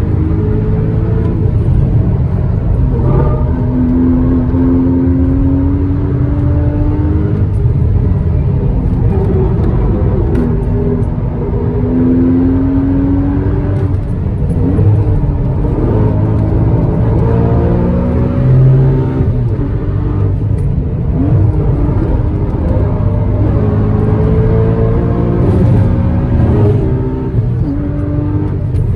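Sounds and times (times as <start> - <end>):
car engine revving: 0.0 - 28.9
road and tyre noise: 0.0 - 28.9.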